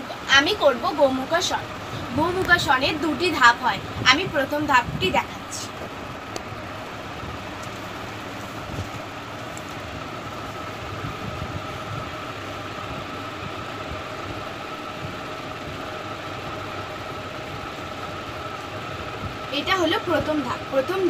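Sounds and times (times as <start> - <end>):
faint whine: 0.0 - 21.0
motor humming: 0.0 - 21.0.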